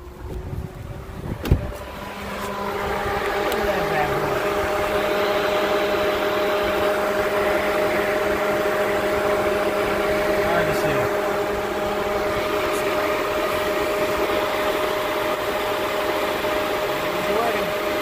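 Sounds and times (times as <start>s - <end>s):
radiator cooling fan running: 0.0s - 18.0s.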